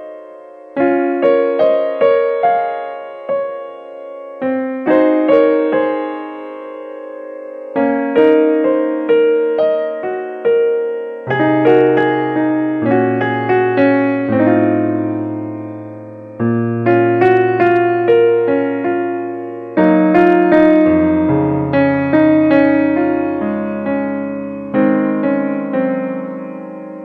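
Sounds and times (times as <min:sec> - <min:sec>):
gentle piano melody: 0:00.0 - 0:27.0
low piano bass notes: 0:00.0 - 0:27.0.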